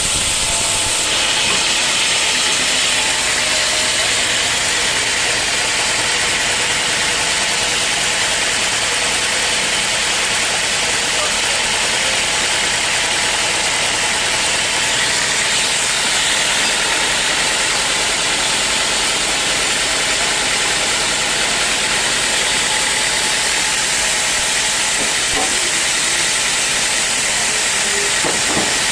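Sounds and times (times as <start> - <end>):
sawmill machinery hissing: 0.0 - 28.9.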